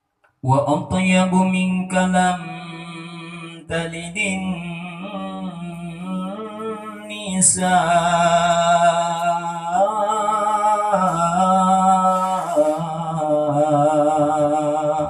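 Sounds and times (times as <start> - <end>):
person singing devotional song: 0.4 - 15.0.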